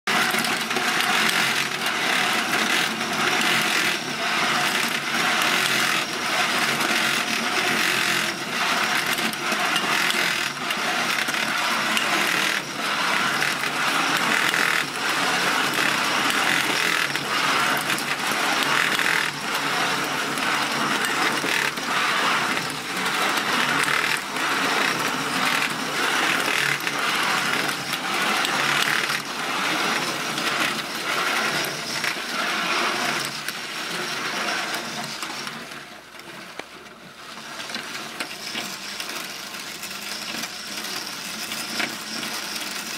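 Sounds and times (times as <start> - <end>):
wind-up toy metallic rattle: 0.1 - 35.7, 37.5 - 42.9.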